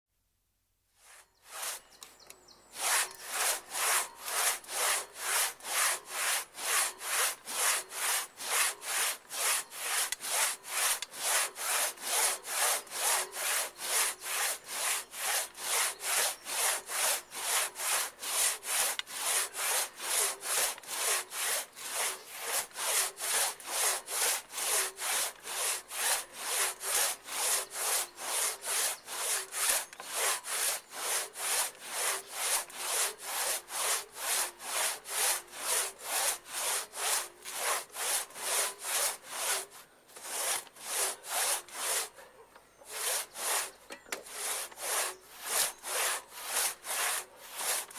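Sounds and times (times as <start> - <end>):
hand saw cutting wood: 1.0 - 2.0, 2.7 - 47.9.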